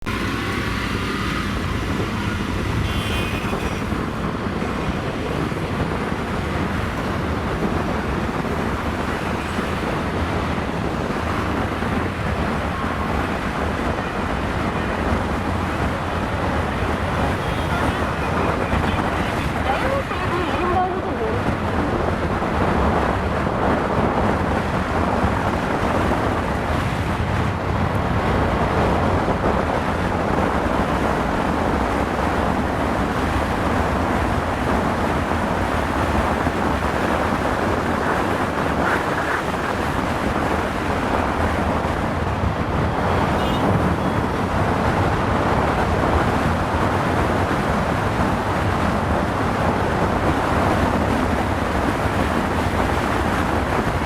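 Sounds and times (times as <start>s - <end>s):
wind rush over microphone: 0.0s - 54.0s.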